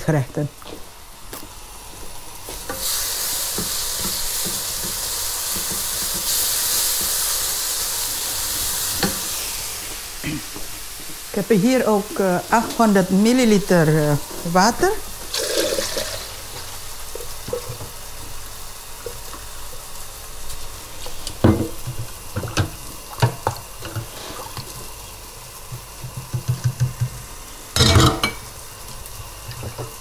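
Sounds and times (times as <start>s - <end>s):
paste sizzling in frying pan: 0.6s - 30.0s.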